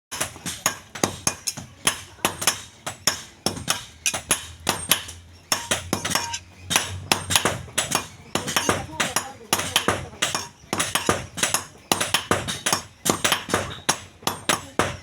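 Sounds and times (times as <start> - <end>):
hammer striking metal on anvil: 0.1 - 15.0.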